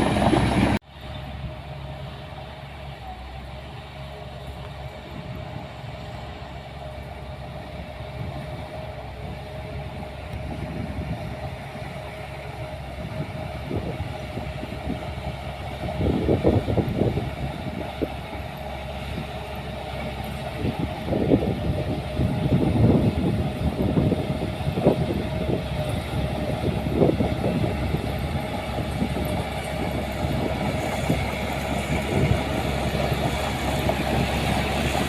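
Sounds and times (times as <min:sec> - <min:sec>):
heavy machinery engine whining: 0:00.0 - 0:35.0.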